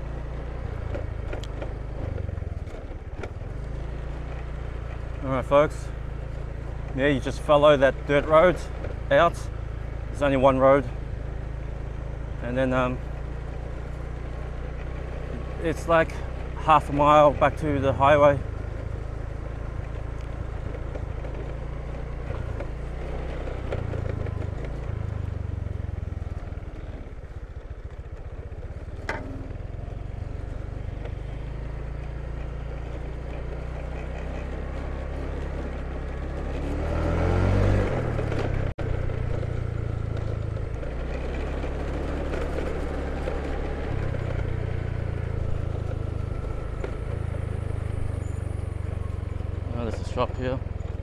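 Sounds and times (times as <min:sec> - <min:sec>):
small vehicle engine running: 0:00.0 - 0:51.0.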